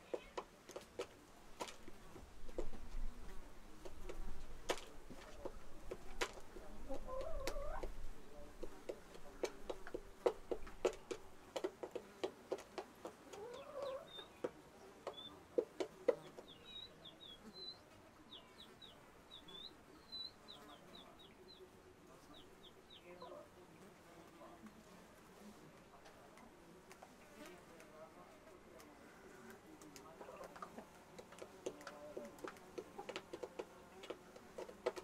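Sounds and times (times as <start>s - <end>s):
chickens clucking: 0.0s - 23.6s, 29.8s - 35.0s.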